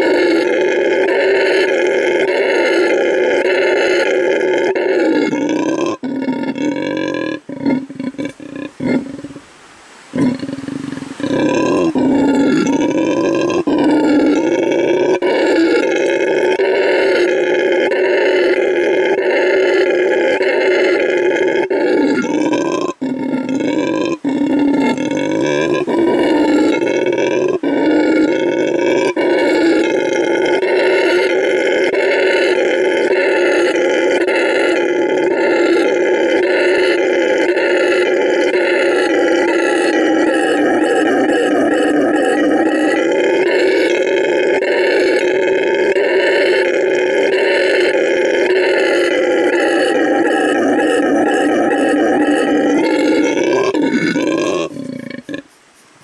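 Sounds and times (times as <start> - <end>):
howler monkey roaring: 0.0 - 9.5, 10.1 - 55.5.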